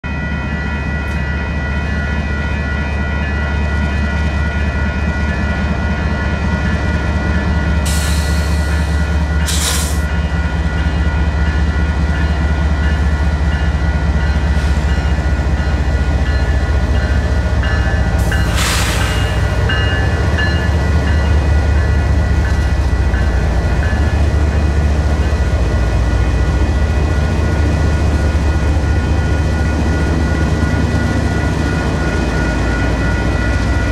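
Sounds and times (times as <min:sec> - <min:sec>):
freight train rumbling: 0:00.0 - 0:33.9
railroad crossing bells ringing: 0:00.0 - 0:33.9.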